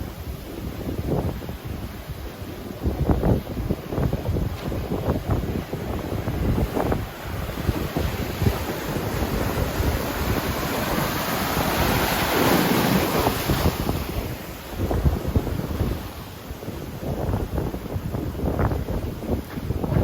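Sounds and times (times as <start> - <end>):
surf breaking on beach: 0.0 - 20.0
wind buffeting microphone: 0.0 - 20.0.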